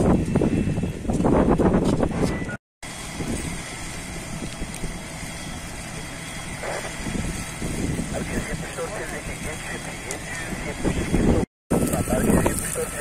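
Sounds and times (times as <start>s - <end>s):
outdoor noise: 0.0s - 13.0s.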